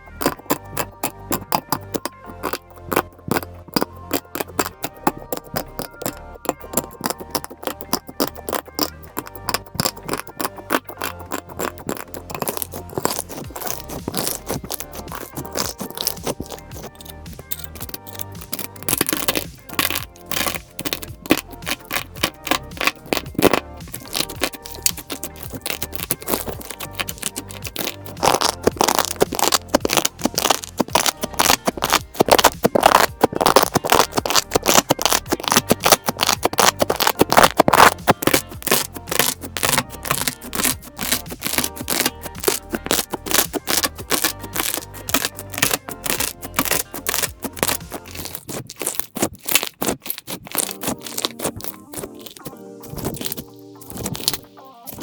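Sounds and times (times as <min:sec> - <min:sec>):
background music: 0:00.0 - 0:55.0
slime crackling and popping: 0:00.0 - 0:55.0.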